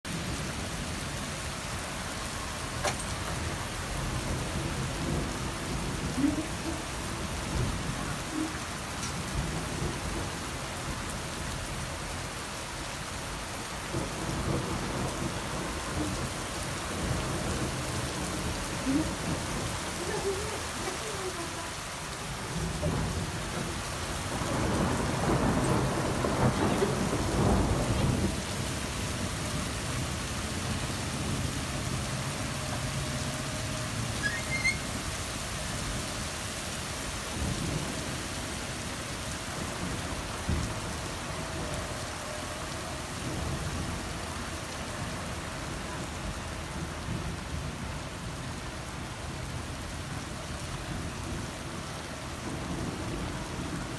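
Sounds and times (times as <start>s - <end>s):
rain falling: 0.0s - 53.9s
thunder rumbling: 0.1s - 12.4s, 13.6s - 36.2s, 37.2s - 53.9s.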